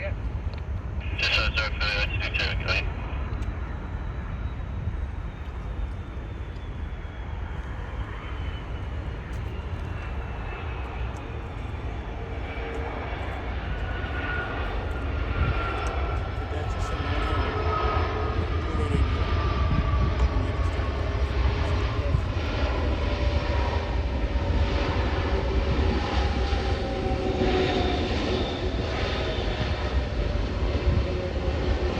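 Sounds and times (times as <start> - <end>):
jet engines rumbling: 0.0 - 31.9.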